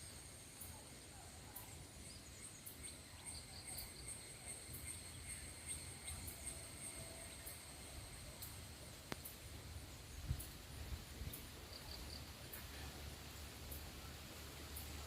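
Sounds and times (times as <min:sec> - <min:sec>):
high-pitched insect trill: 0:00.0 - 0:12.4.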